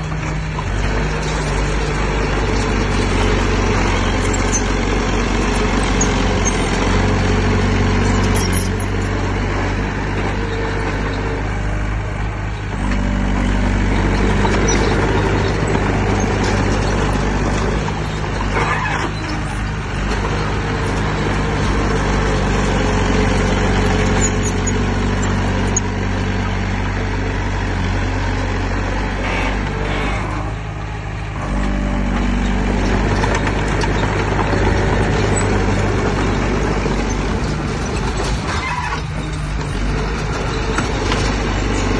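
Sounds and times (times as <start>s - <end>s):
heavy diesel engine under load: 0.0s - 41.9s.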